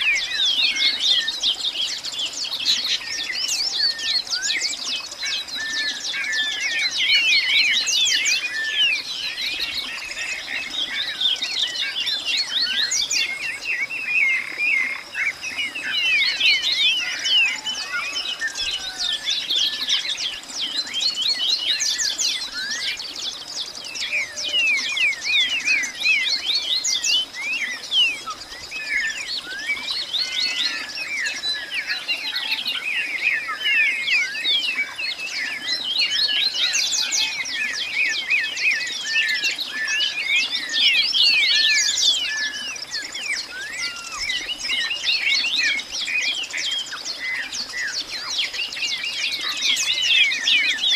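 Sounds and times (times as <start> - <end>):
chorus of birds chirping: 0.0 - 50.9.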